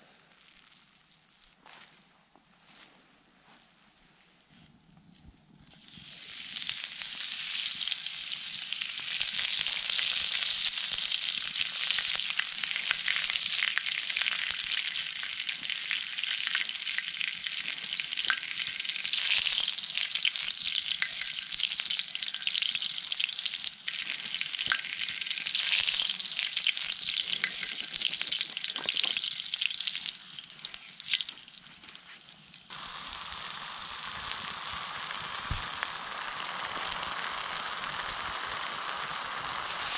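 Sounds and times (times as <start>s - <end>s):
meat sizzling on hot metal: 5.7s - 39.9s.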